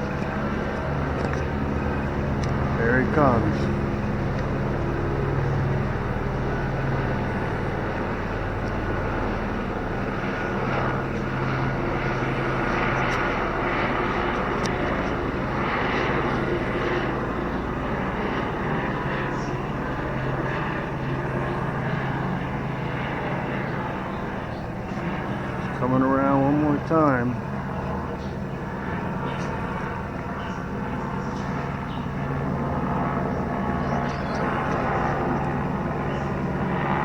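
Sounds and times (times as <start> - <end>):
helicopter flying over: 0.0 - 37.0.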